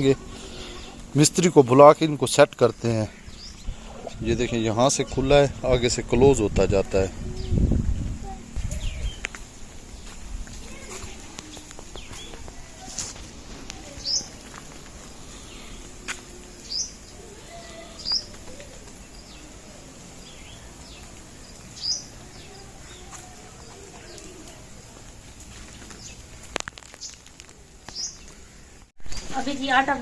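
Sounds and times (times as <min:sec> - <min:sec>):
birds chirping: 0:00.0 - 0:30.0
steady background hiss: 0:00.0 - 0:30.0.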